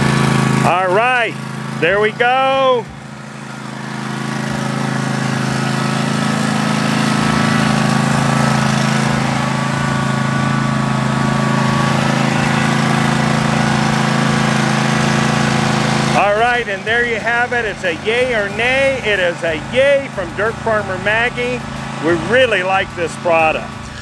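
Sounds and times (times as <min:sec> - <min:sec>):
riding lawn tractor engine: 0:00.0 - 0:24.0.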